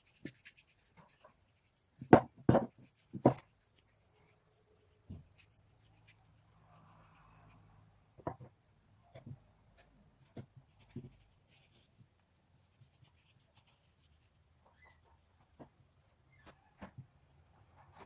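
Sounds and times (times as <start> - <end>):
faint scratching: 0.0 - 8.2, 9.7 - 18.0.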